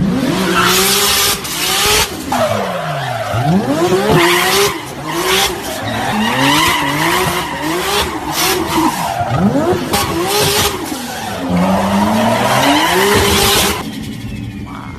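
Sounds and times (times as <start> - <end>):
car engine revving: 0.0 - 14.9
tyres squealing: 0.4 - 14.9.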